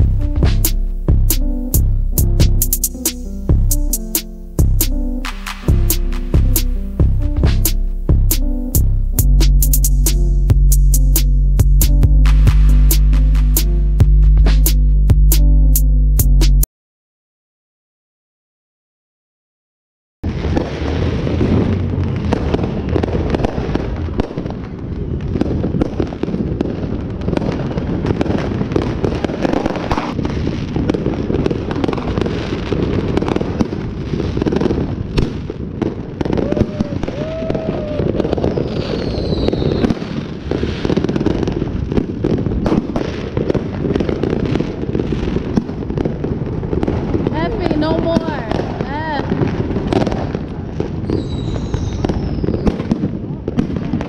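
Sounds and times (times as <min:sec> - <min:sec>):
fireworks bangs and crackling: 0:00.0 - 0:15.4, 0:20.2 - 0:54.0.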